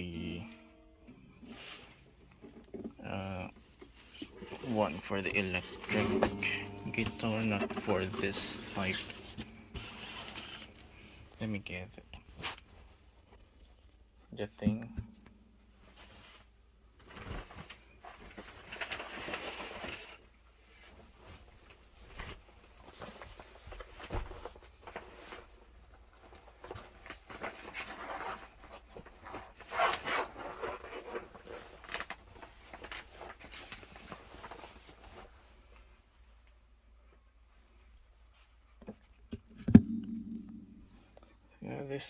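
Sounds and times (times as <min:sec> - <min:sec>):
rustling handling noise: 0:00.5 - 0:41.2.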